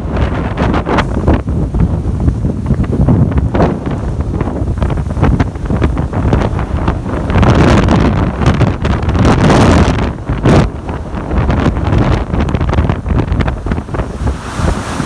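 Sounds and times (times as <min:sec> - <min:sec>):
surf from high waves: 0:00.0 - 0:15.0
wind buffeting microphone: 0:00.0 - 0:15.0.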